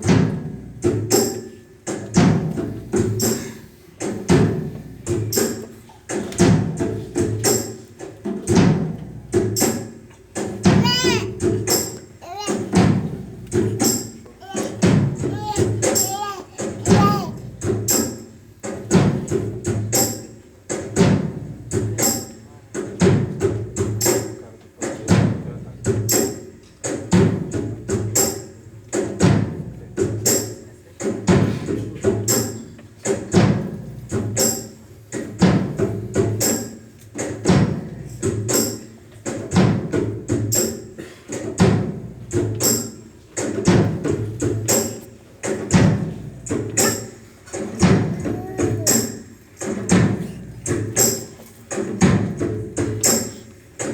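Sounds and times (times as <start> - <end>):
music with percussive beat: 0.0 - 53.9.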